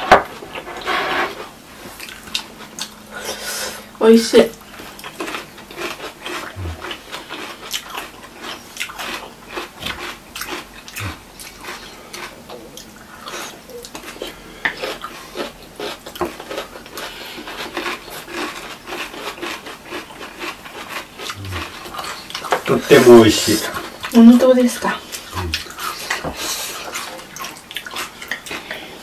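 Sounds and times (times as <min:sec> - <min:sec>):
wet chewing and slurping noodles: 0:00.4 - 0:24.3, 0:24.9 - 0:29.0
cucumber crunching: 0:04.5 - 0:24.2, 0:25.0 - 0:29.0.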